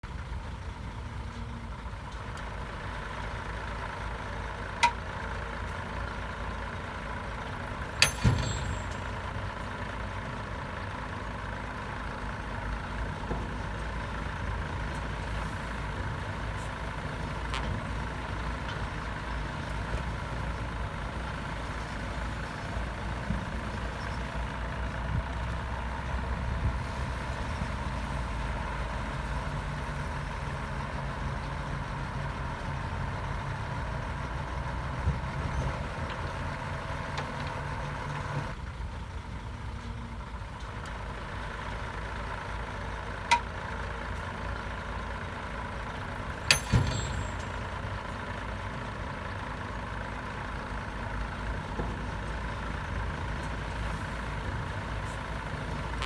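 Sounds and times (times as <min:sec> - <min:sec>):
diesel earthmoving machinery rumbling: 0:00.0 - 0:56.0.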